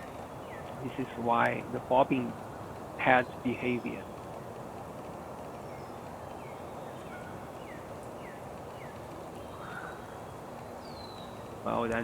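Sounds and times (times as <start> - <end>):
small bird chirping: 0.0 - 4.6, 5.5 - 11.7
outdoor background noise: 0.0 - 12.0.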